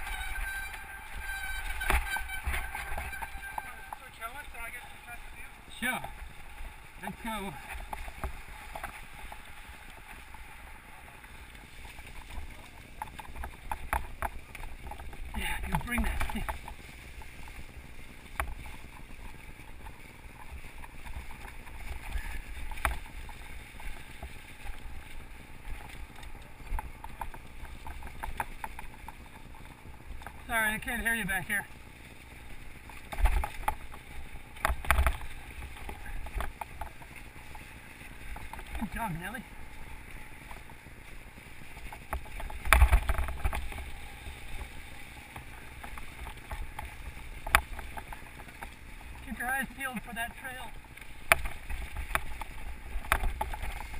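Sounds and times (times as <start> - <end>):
bike rattling over bumps: 0.0 - 53.9
bike tyres crunching through leaves: 0.0 - 53.9.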